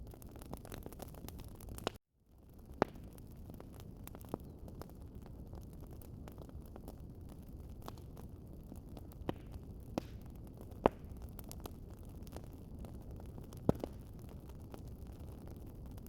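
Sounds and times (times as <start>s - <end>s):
sharp pops from fire: 0.0s - 2.0s, 2.6s - 16.0s
wood fire crackling: 0.0s - 16.0s.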